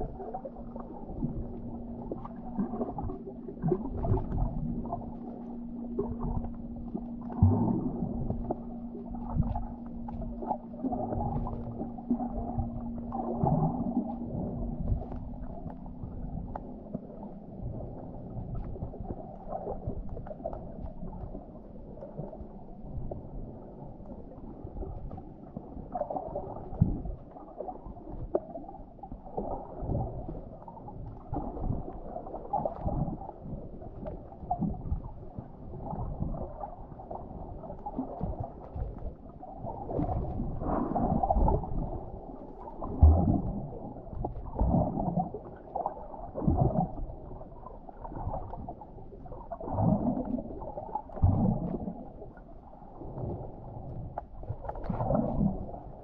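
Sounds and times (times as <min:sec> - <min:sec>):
muffled underwater gurgling: 0:00.0 - 0:56.0.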